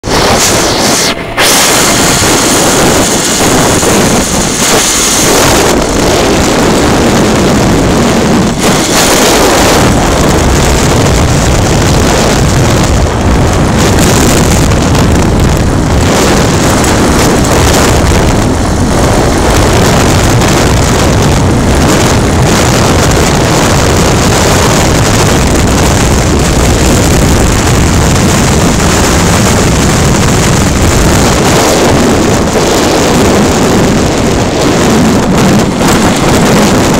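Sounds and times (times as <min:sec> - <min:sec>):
motorcycle running: 0:00.0 - 0:36.9
wind on microphone: 0:00.0 - 0:36.9.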